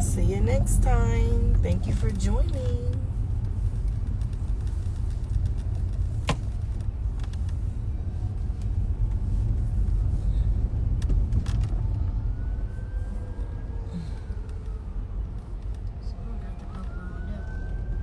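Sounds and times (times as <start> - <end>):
car road noise in cabin: 0.0 - 18.0.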